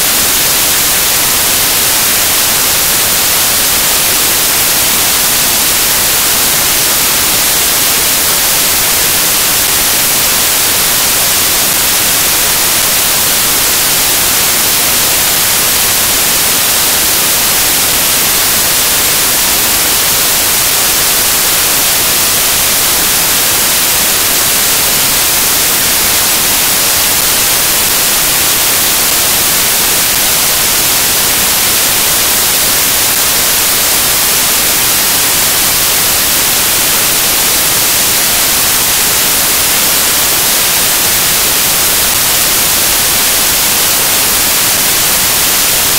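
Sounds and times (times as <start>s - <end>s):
loud static hiss: 0.0s - 45.9s.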